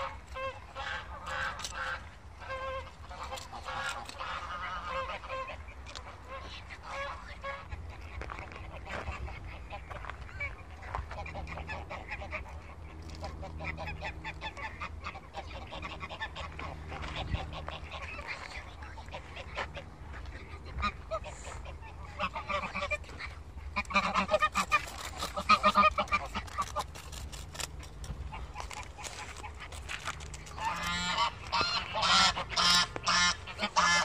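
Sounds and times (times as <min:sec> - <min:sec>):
geese honking: 0:00.0 - 0:34.0.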